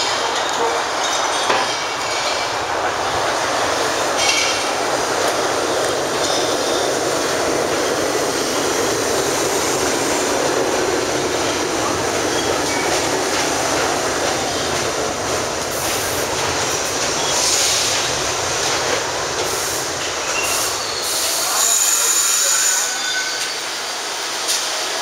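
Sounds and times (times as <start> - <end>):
clickety-clack over rail joints: 0.0 - 20.7, 24.4 - 24.8
train wheels rumbling on rail: 0.0 - 25.0.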